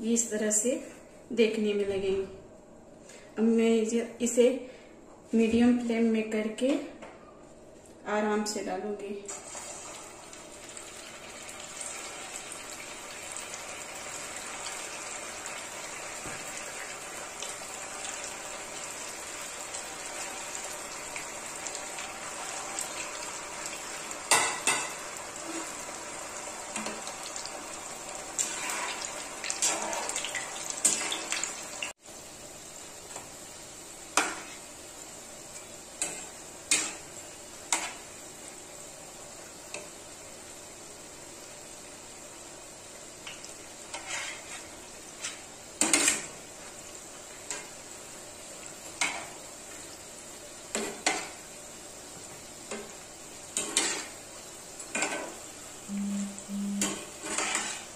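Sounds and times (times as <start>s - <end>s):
food sizzling in hot oil: 9.3s - 57.9s.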